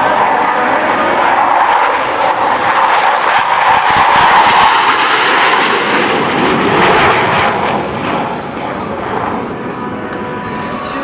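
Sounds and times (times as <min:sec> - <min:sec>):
jets flying past: 0:00.0 - 0:10.0.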